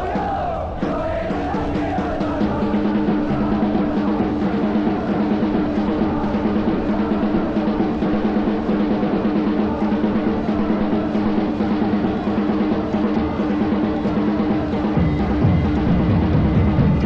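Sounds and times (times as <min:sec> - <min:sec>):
crowd singing a chant: 0:00.0 - 0:17.0
quick steady drumming: 0:00.0 - 0:17.0.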